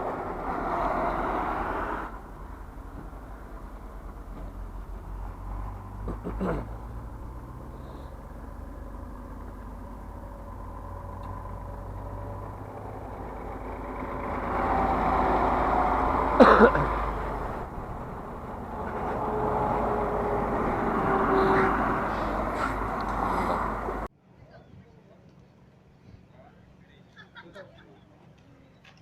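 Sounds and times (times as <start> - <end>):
car engine and road noise: 0.0 - 24.1.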